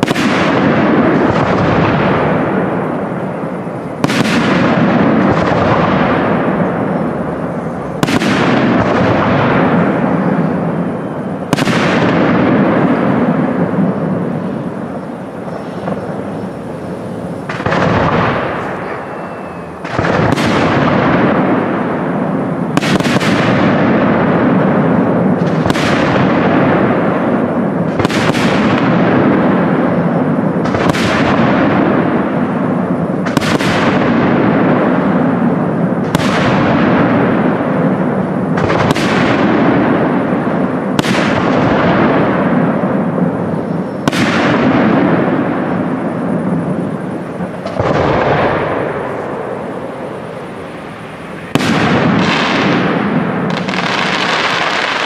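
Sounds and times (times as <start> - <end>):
firework shells bursting: 0.0 - 55.0.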